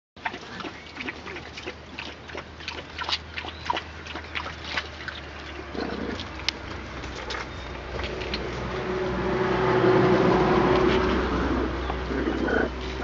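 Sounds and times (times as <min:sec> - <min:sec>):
puppies grunting and squeaking: 0:00.2 - 0:08.8, 0:10.8 - 0:13.0.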